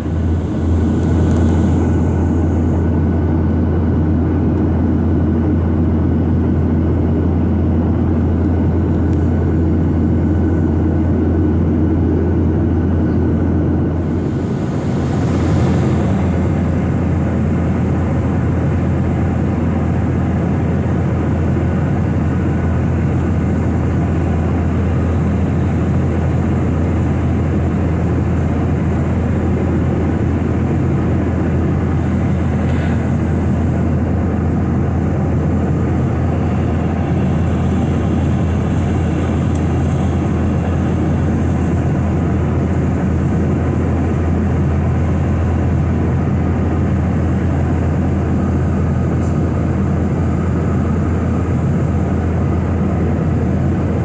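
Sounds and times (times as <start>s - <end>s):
airplane cabin hum: 0.0s - 54.0s
rush of air and jet engines: 0.0s - 54.0s.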